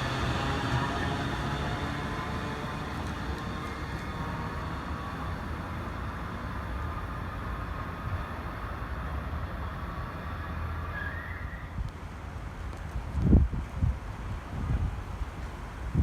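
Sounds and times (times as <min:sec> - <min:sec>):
train rumbling on tracks: 0:00.0 - 0:16.0.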